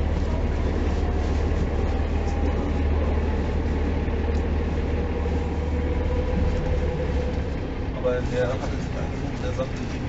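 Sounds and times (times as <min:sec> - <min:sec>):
bus diesel engine drone: 0:00.0 - 0:10.0
road and cabin rumble: 0:00.0 - 0:10.0.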